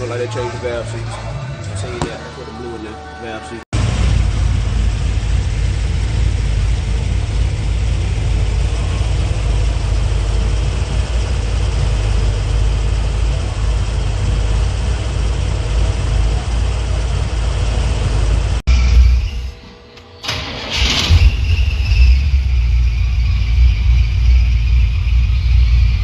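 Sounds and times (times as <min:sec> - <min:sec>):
low engine rumble: 0:00.0 - 0:26.0.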